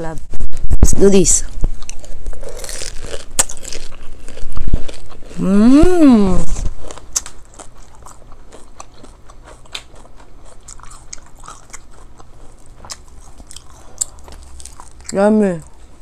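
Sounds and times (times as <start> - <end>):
chewing crunchy food: 1.4 - 16.0.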